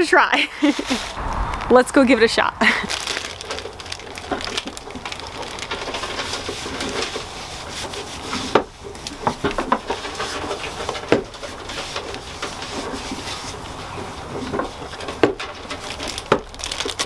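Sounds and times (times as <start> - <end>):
rubbing and handling noises: 0.4 - 17.0.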